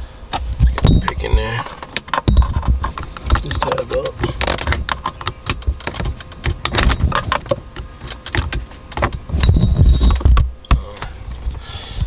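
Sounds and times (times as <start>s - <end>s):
dull thumps: 0.4s - 11.6s.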